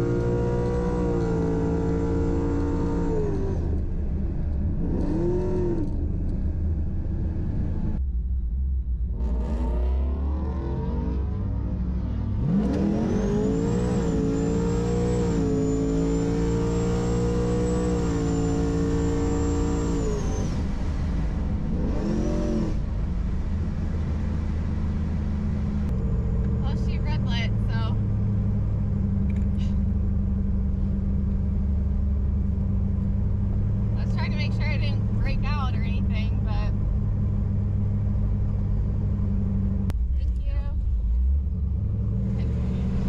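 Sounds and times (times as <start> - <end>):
car engine revving: 0.0 - 43.0
supercharger whine: 0.0 - 43.0.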